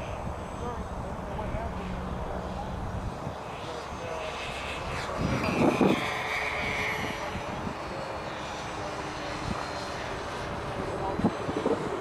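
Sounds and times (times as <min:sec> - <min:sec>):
model airplane motors whining: 0:00.0 - 0:12.0.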